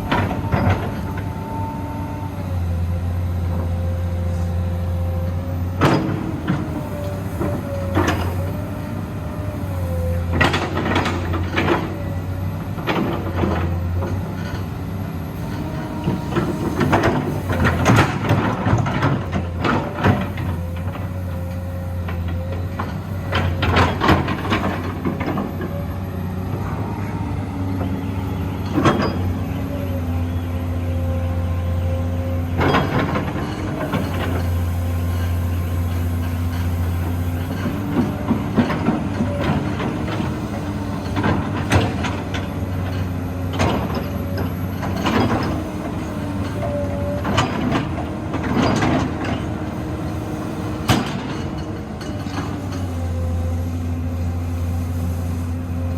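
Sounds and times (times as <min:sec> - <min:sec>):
excavator engine droning: 0:00.0 - 0:55.9.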